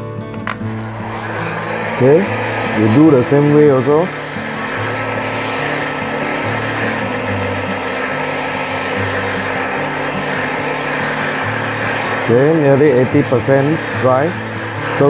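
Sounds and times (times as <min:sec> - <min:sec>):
heat gun blowing: 0:00.1 - 0:15.0.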